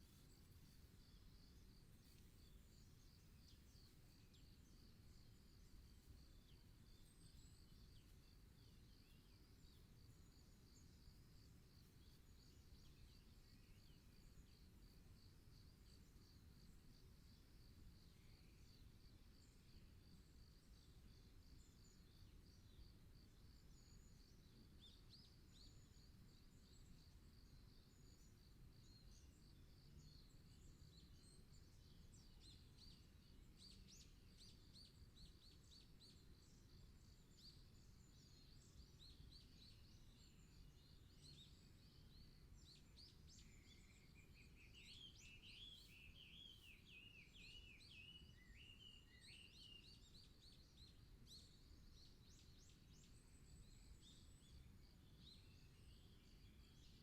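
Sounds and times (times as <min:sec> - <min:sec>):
birds chirping and twittering: 0:00.0 - 0:57.0
warbling birdsong: 0:00.0 - 0:57.0.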